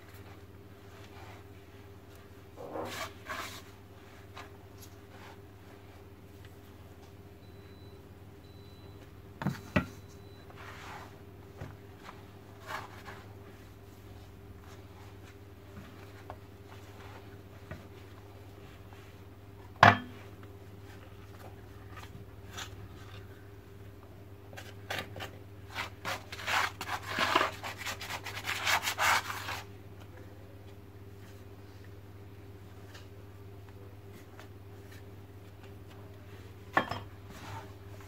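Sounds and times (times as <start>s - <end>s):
hands kneading dough: 0.0s - 7.3s, 8.9s - 38.0s.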